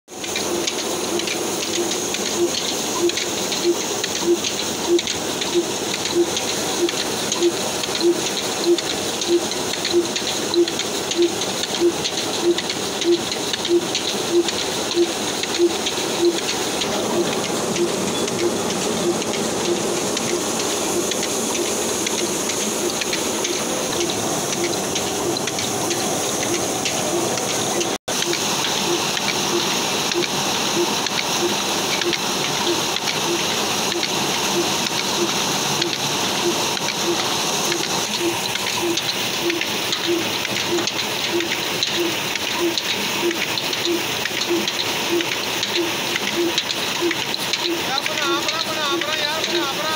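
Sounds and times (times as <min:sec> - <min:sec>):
cotton machine rushing hiss: 0:00.1 - 0:49.9
diesel engine beat: 0:00.2 - 0:49.9.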